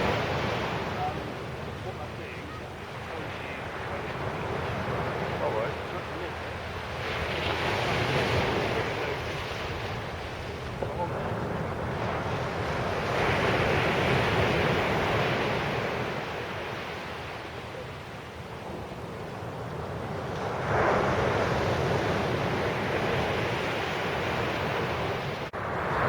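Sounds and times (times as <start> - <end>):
surf breaking on beach: 0.0 - 26.0.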